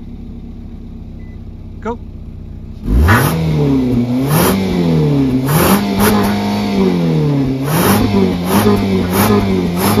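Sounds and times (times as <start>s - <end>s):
car engine revving: 1.7s - 10.0s.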